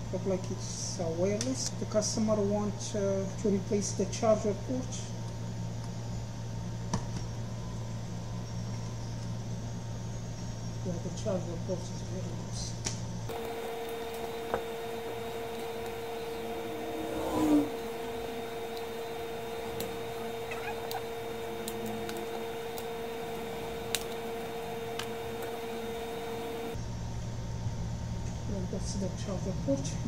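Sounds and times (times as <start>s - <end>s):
steady hum: 0.0s - 29.4s.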